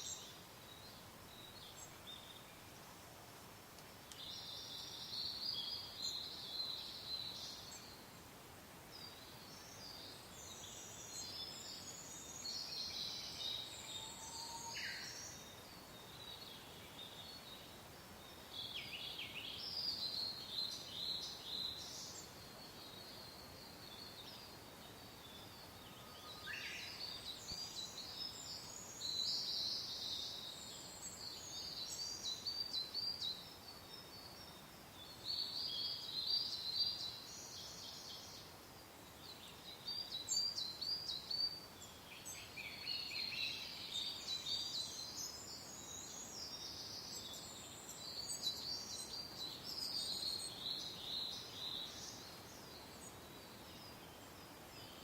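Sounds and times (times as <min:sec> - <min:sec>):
soft wind: 0:00.0 - 0:55.0
songbirds chirping: 0:00.0 - 0:55.0.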